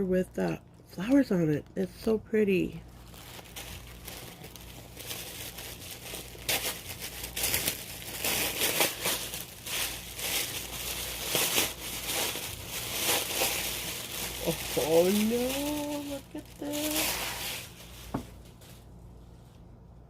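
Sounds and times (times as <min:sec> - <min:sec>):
tissue paper rustling: 0:02.9 - 0:19.6.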